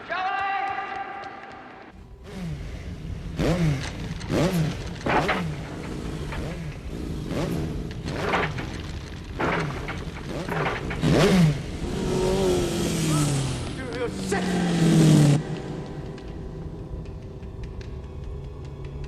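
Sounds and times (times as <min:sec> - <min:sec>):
motorcycles revving past: 0:02.2 - 0:19.0.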